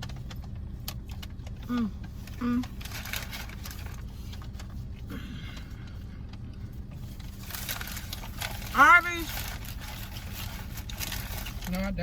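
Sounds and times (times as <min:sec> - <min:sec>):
car interior hum: 0:00.0 - 0:12.0
food handling clicks and rustling: 0:00.0 - 0:12.0.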